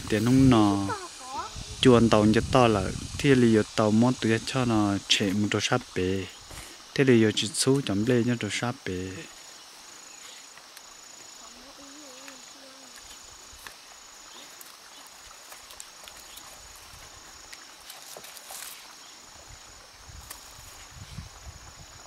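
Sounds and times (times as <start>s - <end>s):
insect trilling: 0.0s - 22.0s.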